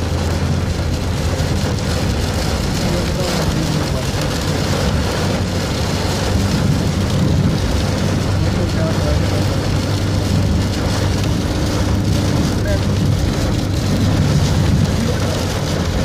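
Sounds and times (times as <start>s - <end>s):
car engine and tyres droning: 0.0s - 16.0s
heavy rain hissing on car: 0.0s - 16.0s.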